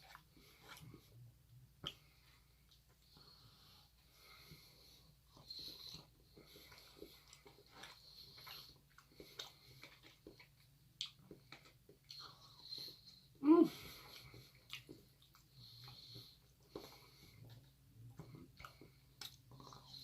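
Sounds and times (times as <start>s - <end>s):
person chewing: 0.0s - 3.4s, 4.4s - 20.0s
soft breaths: 1.9s - 10.5s, 11.3s - 20.0s.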